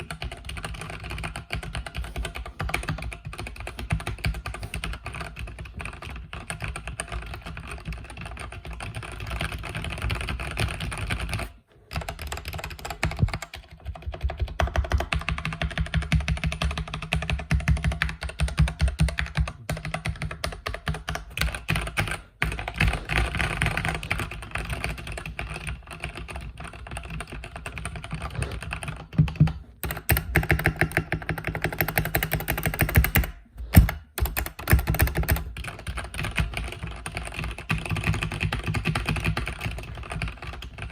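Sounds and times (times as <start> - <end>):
typing on mechanical keyboard: 0.0 - 40.9.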